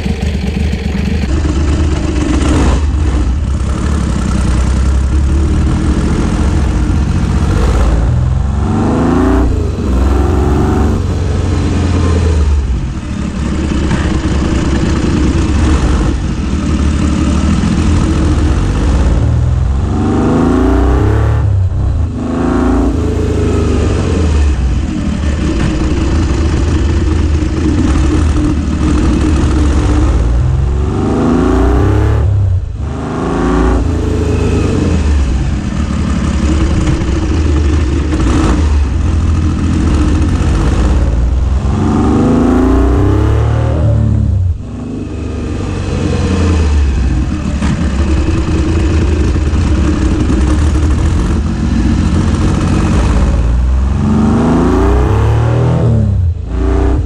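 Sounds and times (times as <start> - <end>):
motorcycle exhaust revving: 0.0 - 57.0.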